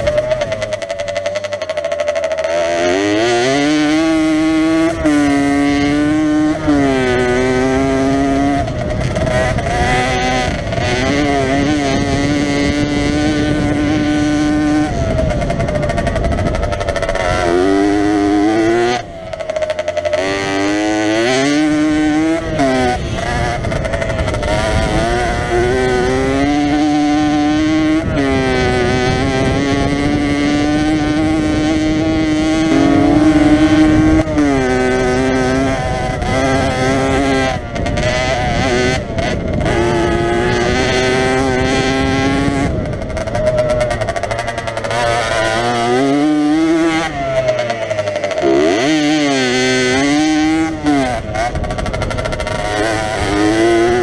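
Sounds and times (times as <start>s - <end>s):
two-stroke motorcycle revving: 0.0s - 54.0s.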